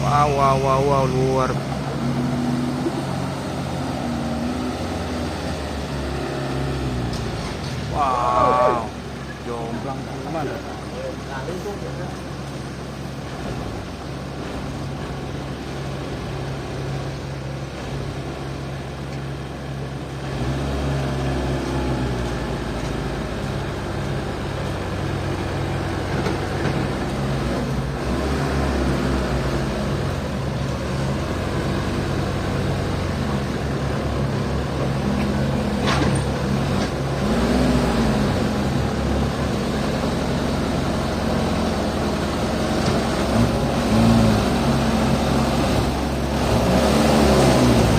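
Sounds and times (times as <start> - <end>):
excavator engine revving: 0.0 - 47.9.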